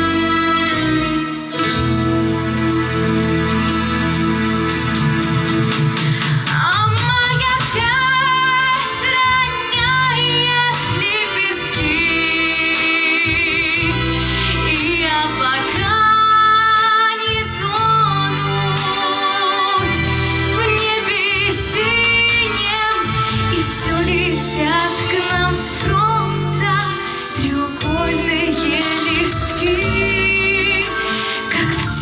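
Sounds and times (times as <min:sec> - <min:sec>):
recorded accompaniment with bass: 0:00.0 - 0:32.0
woman singing with vibrato: 0:06.4 - 0:32.0.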